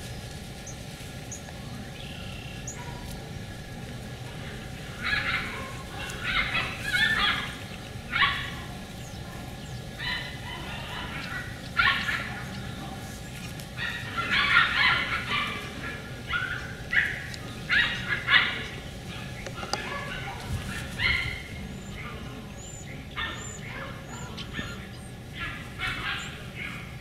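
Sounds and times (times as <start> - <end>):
puppies yapping: 0.0 - 27.0.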